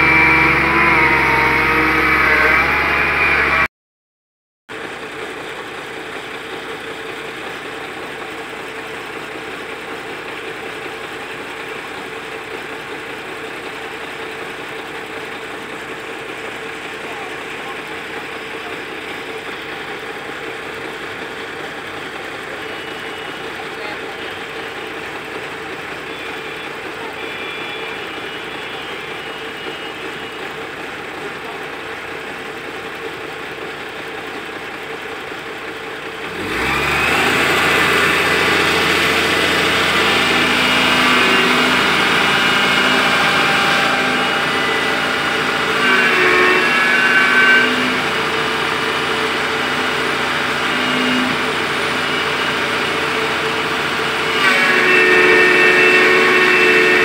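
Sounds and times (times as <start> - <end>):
excavator engine running: 0.0 - 3.7, 4.7 - 57.0.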